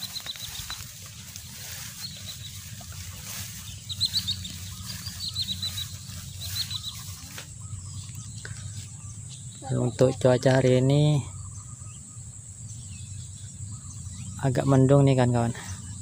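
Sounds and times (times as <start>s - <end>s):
high insect tone: 0.0s - 16.0s
small birds chirping: 0.0s - 16.0s.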